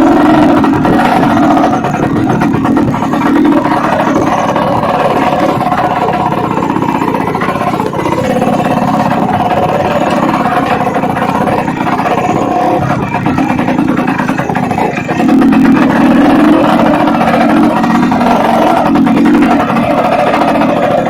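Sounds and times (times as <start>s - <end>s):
two-stroke engine running: 0.0s - 21.0s.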